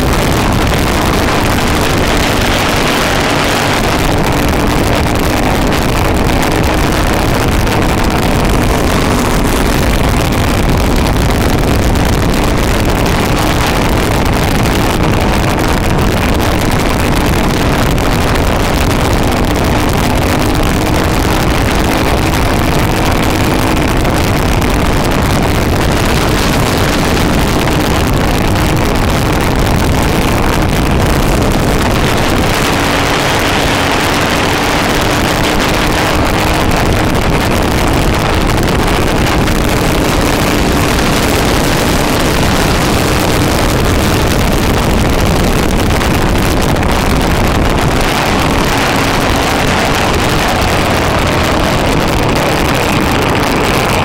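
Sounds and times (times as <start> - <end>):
go-kart engine racing: 0.0 - 54.0
wind noise on microphone: 0.0 - 54.0.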